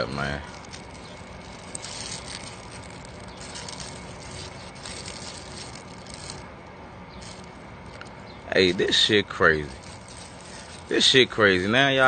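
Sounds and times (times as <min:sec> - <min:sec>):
rustling hiss: 0:00.0 - 0:06.5, 0:07.1 - 0:12.0.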